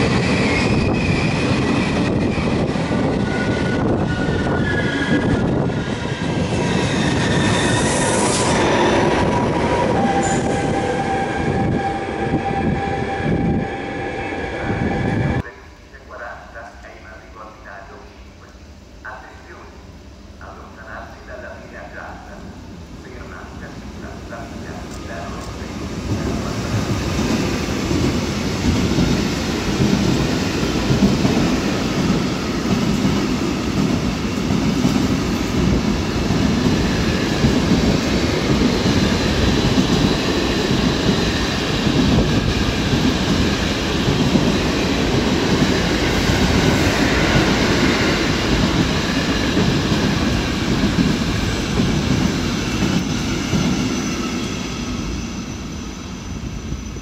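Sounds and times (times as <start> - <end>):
train wheels rumbling on rails: 0.0 - 15.5, 23.1 - 57.0.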